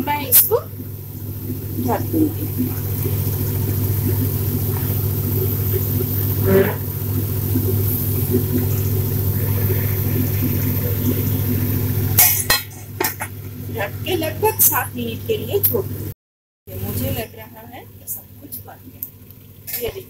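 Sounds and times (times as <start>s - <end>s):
low hum: 0.0s - 16.1s.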